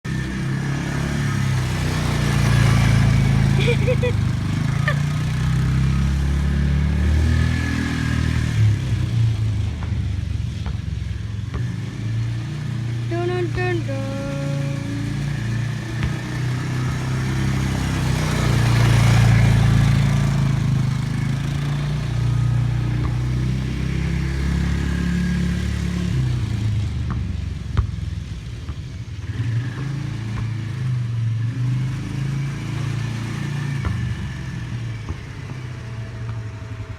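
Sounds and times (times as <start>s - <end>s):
vehicle engine running: 0.1s - 36.9s.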